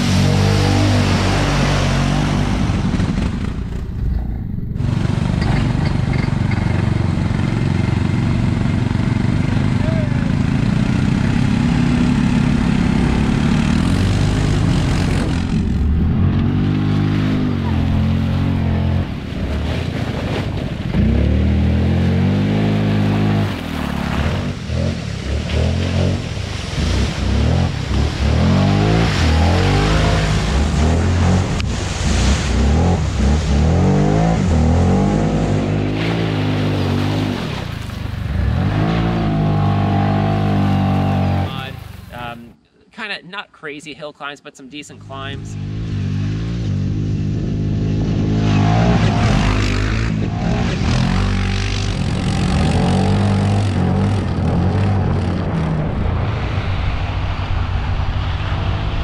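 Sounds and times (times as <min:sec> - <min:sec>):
mud and water splashing: 0:00.0 - 0:42.4, 0:45.6 - 0:59.0
atv engines running: 0:00.0 - 0:42.5, 0:45.0 - 0:56.7.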